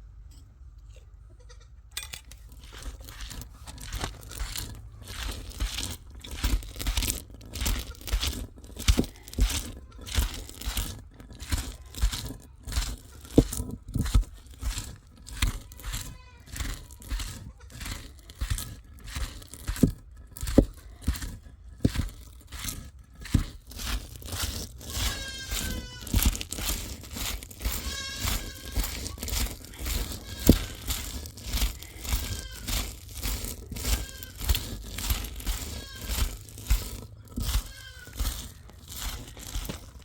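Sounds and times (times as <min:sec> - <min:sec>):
crunching and knocking handling: 0:01.9 - 0:40.0.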